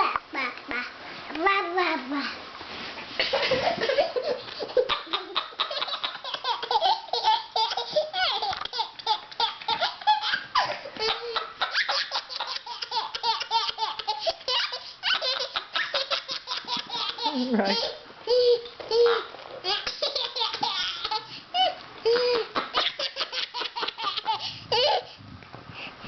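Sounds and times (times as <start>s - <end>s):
baby laughing: 3.2s - 25.1s.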